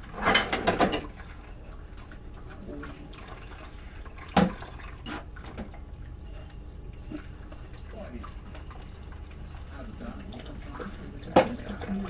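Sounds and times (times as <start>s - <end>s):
faint water and sponge sounds: 1.0s - 12.0s.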